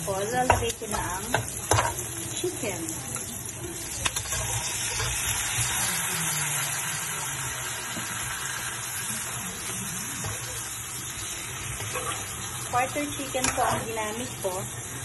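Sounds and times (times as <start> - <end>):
chicken sizzling in oil: 0.0 - 15.0
spatula turning meat: 0.2 - 15.0.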